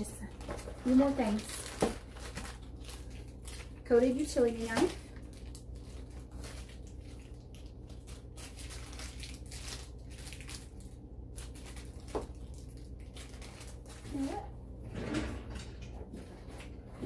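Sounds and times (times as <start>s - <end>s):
packaging rustling and crinkling: 0.0s - 14.7s.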